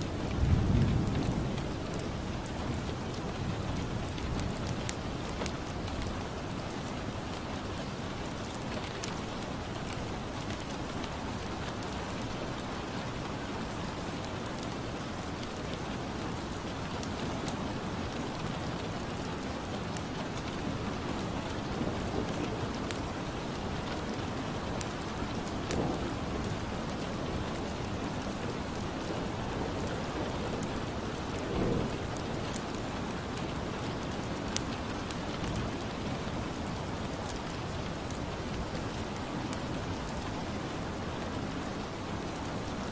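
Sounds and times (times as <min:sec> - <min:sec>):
steady rain: 0:00.0 - 0:42.9
wood fire crackling: 0:00.2 - 0:42.9.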